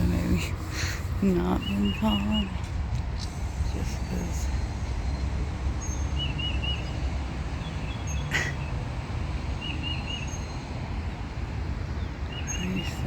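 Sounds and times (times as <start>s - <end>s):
songbird chirping: 0.0s - 13.0s
steady low rumble: 0.0s - 13.0s.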